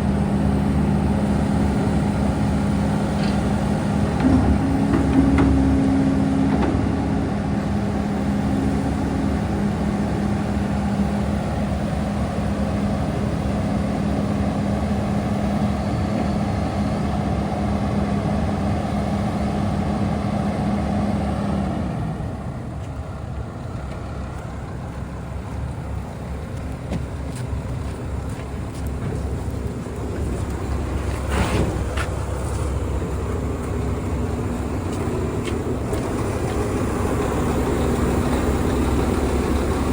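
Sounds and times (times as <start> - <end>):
excavator engine humming: 0.0 - 39.9.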